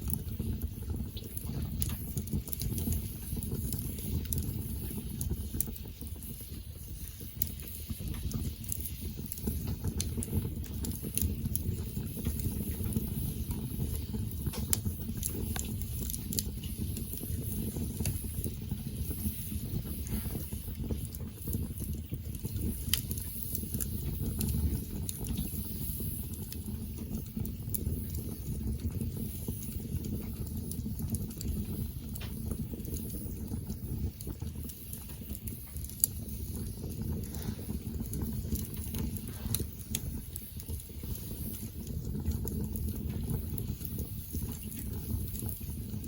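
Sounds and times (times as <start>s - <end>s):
campfire low rumble: 0.0s - 46.0s
fire crackling and popping: 0.0s - 46.0s.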